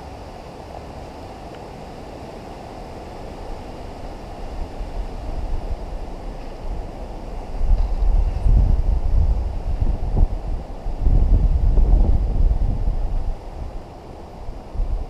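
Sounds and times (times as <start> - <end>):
wind buffeting microphone: 2.0 - 15.0.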